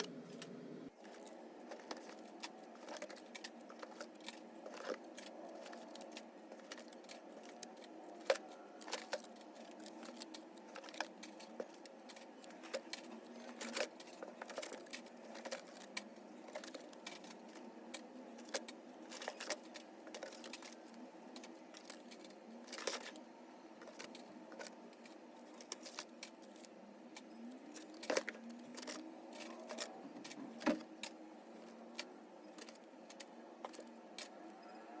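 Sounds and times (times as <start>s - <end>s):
toy cars and cardboard handled: 0.0s - 35.0s.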